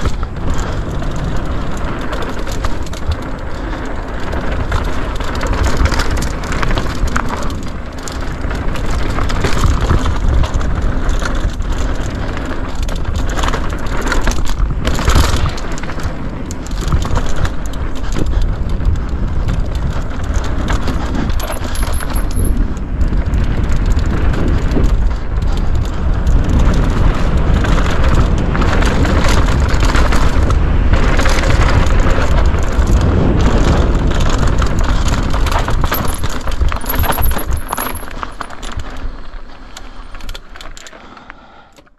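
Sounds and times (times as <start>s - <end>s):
chain and frame rattling: 0.0s - 30.5s, 31.1s - 41.0s
bike tyres rumbling over dirt: 0.0s - 41.7s
wind rumble: 0.0s - 41.8s.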